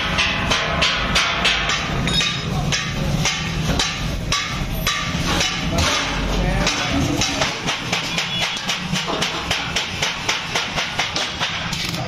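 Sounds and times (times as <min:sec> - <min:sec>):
hammer blows on sheet steel: 0:00.0 - 0:12.0.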